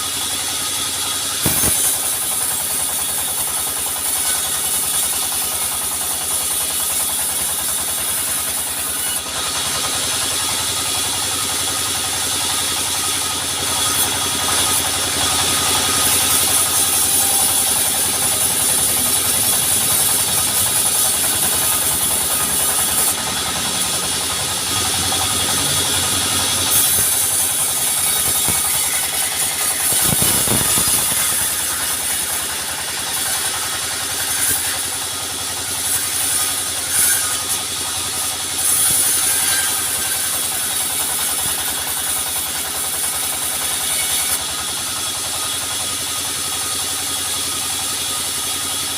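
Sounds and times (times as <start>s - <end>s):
sawmill machinery drone with hiss: 0.0s - 48.9s.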